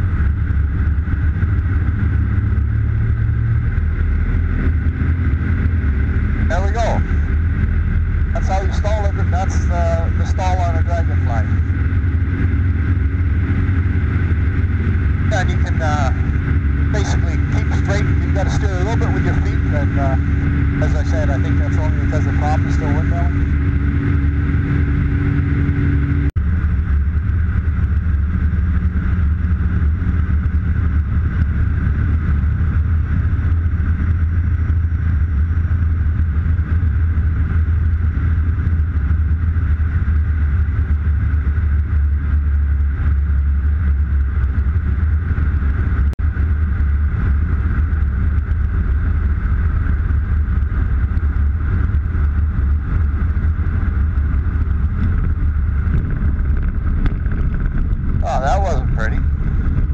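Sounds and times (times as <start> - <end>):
aircraft engine drone: 0.0 - 59.9
airflow over canopy: 0.0 - 59.9.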